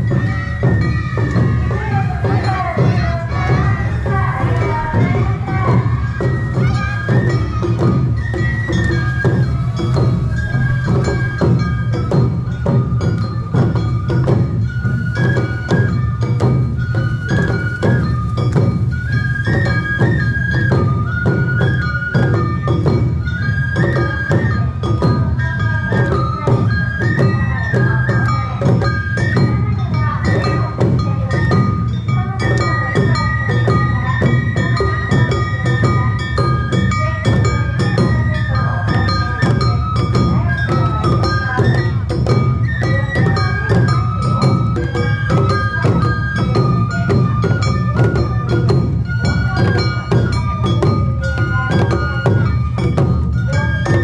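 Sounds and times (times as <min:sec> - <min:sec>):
bamboo flute melody: 0:00.0 - 0:54.0
drum and percussion beats: 0:00.0 - 0:54.0.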